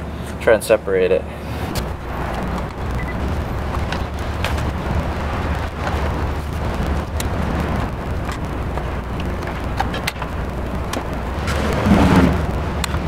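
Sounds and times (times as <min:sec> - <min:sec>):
steady low rumble: 0:01.1 - 0:13.0.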